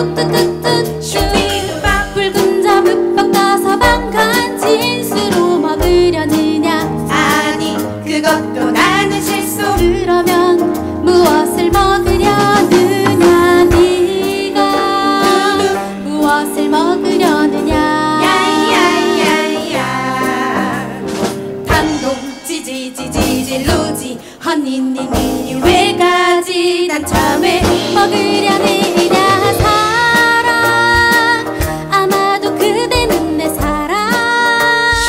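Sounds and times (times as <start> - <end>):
band with drums keyboard and bass: 0.0 - 24.2, 25.0 - 35.0
women singing: 0.0 - 35.0.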